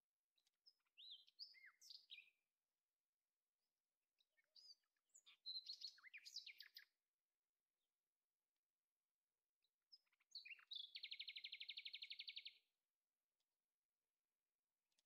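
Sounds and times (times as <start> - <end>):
faint bird song: 0.0 - 15.0.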